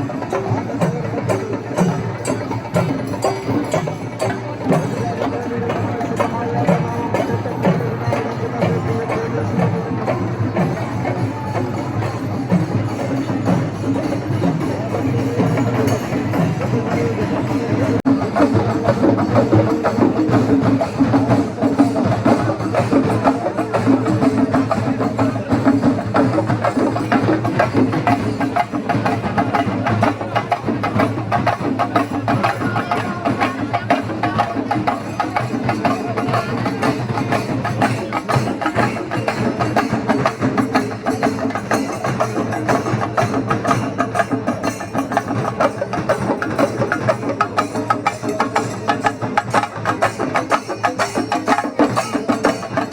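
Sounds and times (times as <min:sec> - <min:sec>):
fast stick percussion music: 0:00.0 - 0:52.9.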